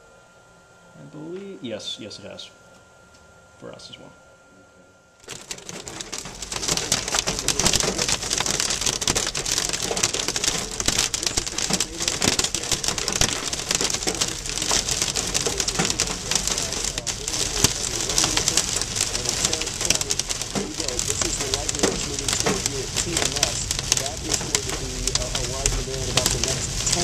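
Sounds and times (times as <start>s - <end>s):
heavy rain on car windshield: 5.2s - 27.0s.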